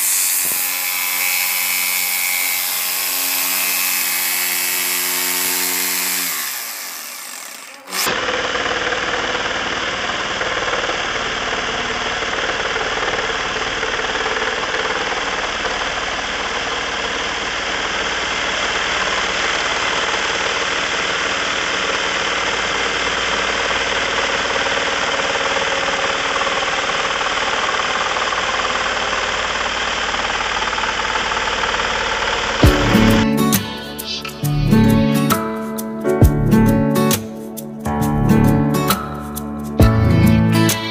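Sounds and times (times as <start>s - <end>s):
jigsaw sawing through wood: 0.0s - 35.8s, 39.7s - 40.9s.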